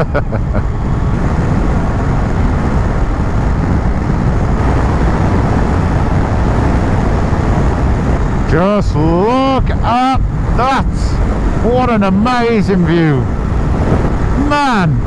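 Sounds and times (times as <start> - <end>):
motorcycle road noise: 0.0 - 15.0
wind rush: 0.0 - 15.0.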